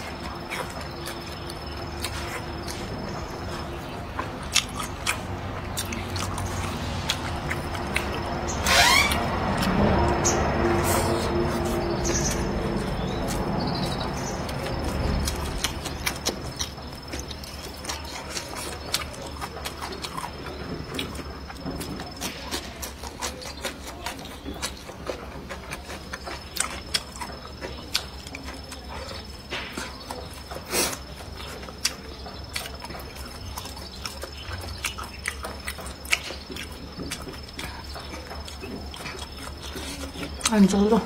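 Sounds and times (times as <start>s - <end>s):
person chewing crunchy food: 0.0s - 41.0s.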